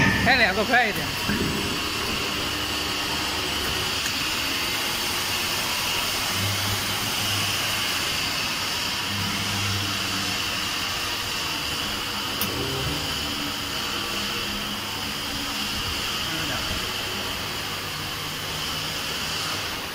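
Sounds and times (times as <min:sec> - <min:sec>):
hydraulic pump hissing: 0:00.0 - 0:19.9.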